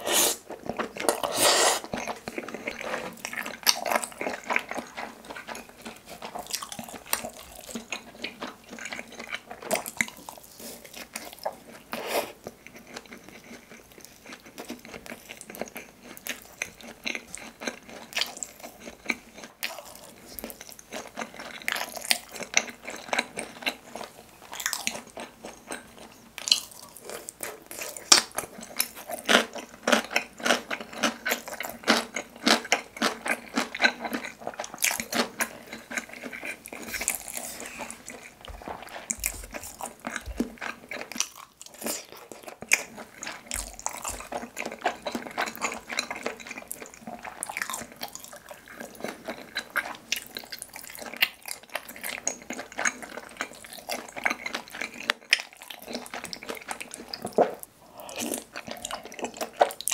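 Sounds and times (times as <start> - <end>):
wet sticky chewing: 0.1 - 59.9.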